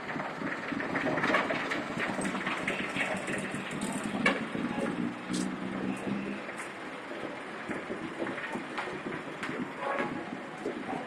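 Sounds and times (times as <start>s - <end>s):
cars passing: 0.9s - 11.0s.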